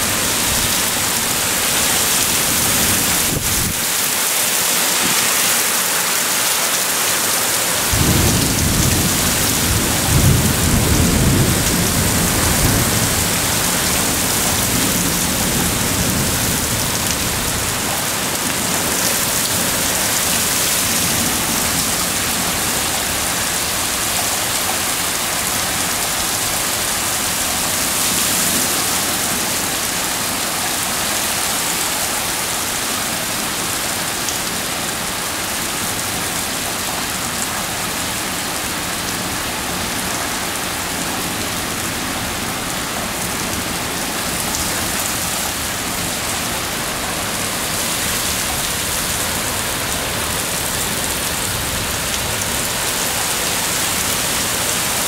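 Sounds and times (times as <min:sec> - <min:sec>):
heavy rain pouring on pavement: 0:00.0 - 0:55.0.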